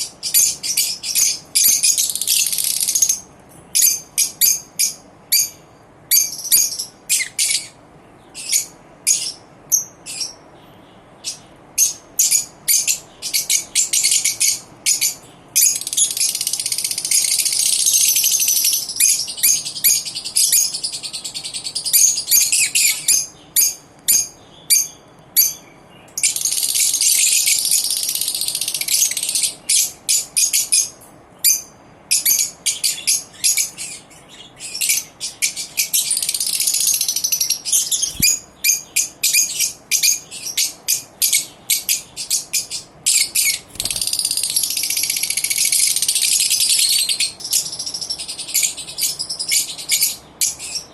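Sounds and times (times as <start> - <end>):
lovebirds chattering: 0.0 - 50.9.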